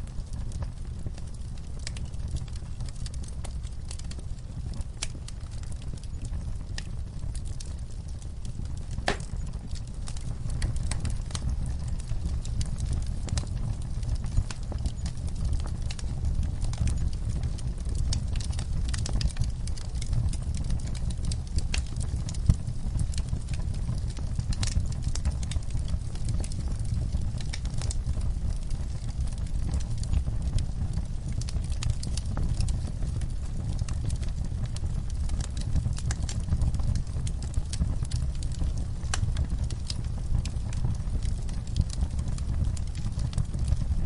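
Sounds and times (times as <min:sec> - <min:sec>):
campfire crackling and popping: 0:00.0 - 0:44.0
fire low rumble: 0:00.0 - 0:44.0.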